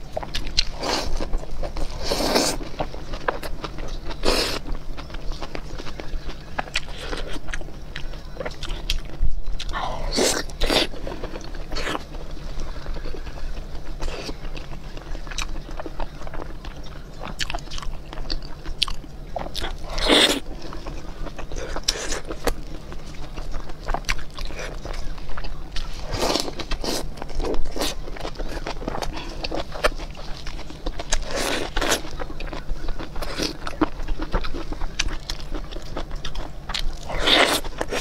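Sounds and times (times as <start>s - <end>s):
biting and chewing food: 0.0s - 38.0s.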